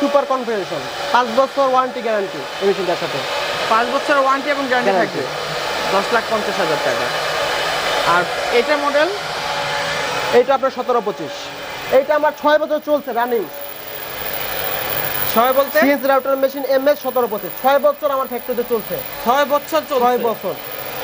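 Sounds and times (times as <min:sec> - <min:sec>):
router spindle whirring: 0:00.0 - 0:21.0
stepper motors whining: 0:02.6 - 0:21.0.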